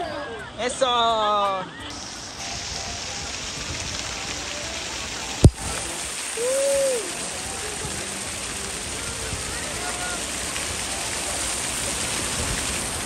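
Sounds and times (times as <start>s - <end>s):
water spraying into a pool: 1.9s - 13.0s.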